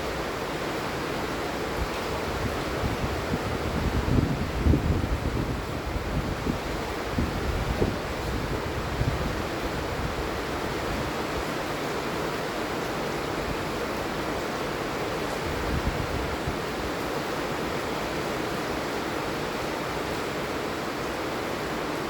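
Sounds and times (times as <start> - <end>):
heavy rainfall: 0.0 - 22.0.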